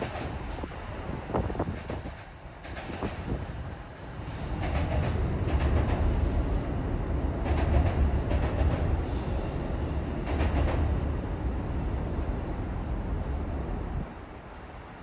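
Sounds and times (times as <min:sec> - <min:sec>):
train rumbling across bridge: 0:00.0 - 0:15.0.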